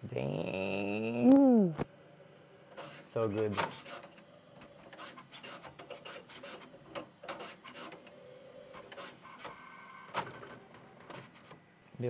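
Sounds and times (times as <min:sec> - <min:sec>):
printer motors whirring: 0:01.8 - 0:11.8.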